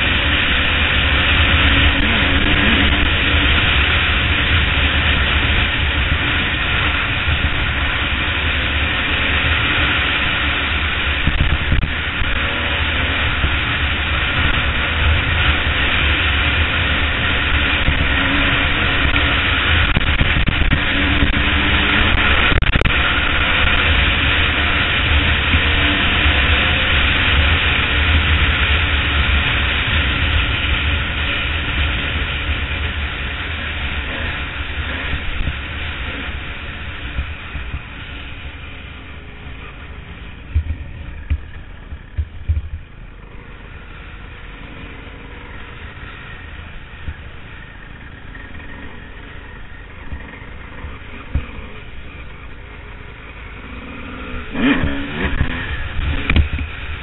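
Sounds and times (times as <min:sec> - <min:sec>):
wind buffeting microphone: 0:00.0 - 0:12.5, 0:13.2 - 0:44.7, 0:54.4 - 0:57.0
motorcycle engine running: 0:00.0 - 0:57.0.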